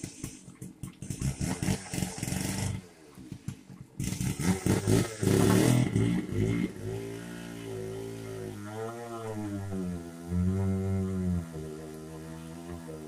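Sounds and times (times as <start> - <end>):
chainsaw revving: 0.0 - 3.4, 4.0 - 13.0.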